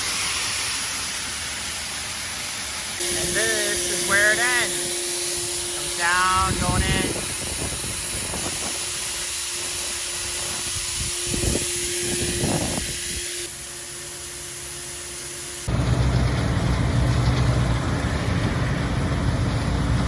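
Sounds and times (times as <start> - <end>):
harvest machinery hissing and humming: 0.0 - 20.0.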